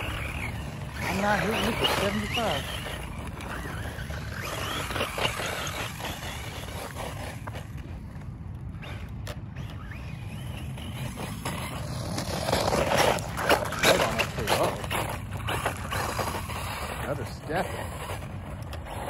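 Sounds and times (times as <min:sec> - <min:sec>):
electric motor whining: 0:00.0 - 0:07.7, 0:08.8 - 0:19.0
tyres crunching on gravel: 0:00.0 - 0:09.0, 0:09.6 - 0:19.0.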